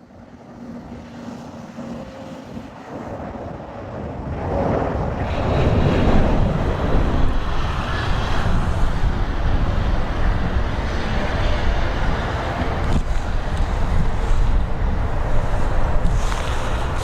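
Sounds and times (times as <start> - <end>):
airplane passing close by: 0.0 - 17.0
wind on microphone: 0.0 - 17.0.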